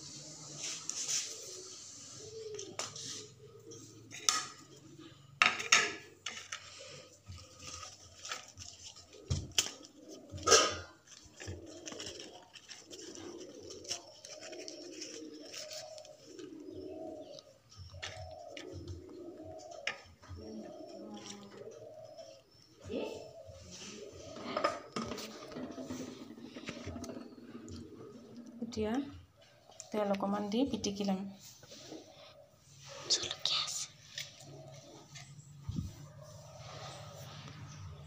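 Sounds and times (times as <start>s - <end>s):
pigeon cooing: 0.0s - 30.0s, 30.8s - 38.0s.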